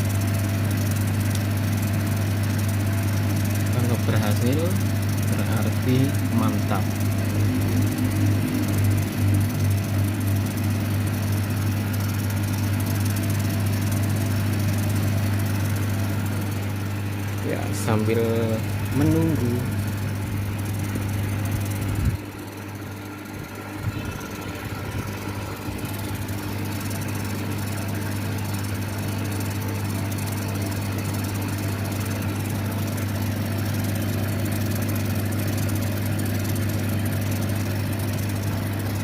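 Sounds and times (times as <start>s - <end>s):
laser cutter motors humming: 0.0s - 39.0s.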